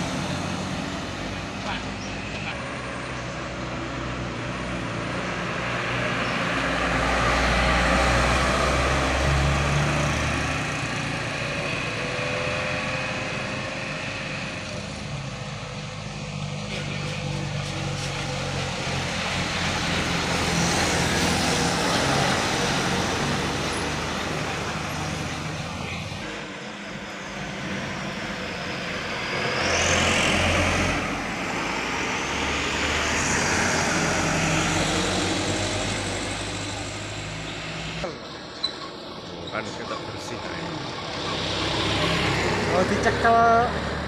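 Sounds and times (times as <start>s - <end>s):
trucks driving past: 0.0s - 44.0s.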